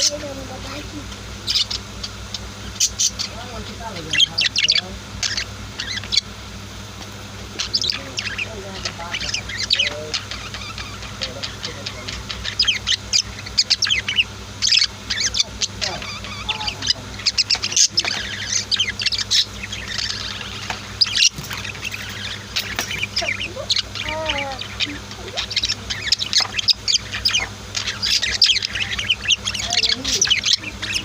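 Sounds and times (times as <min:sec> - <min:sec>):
birds chirping and chattering: 0:00.0 - 0:31.0
lower rising and falling bird calls: 0:00.0 - 0:31.0.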